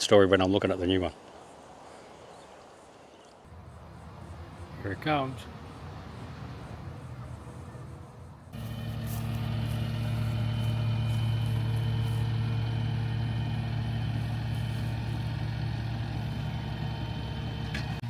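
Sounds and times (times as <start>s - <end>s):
diesel engine running: 3.5s - 18.0s.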